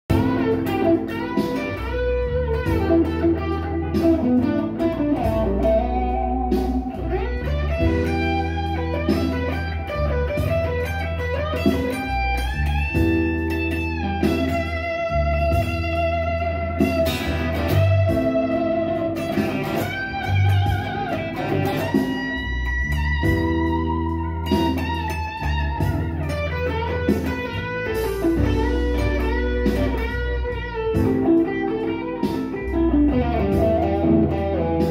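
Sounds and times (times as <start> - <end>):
backing track bass line: 0.0 - 34.9
overdriven electric guitar blues lead: 0.1 - 34.9.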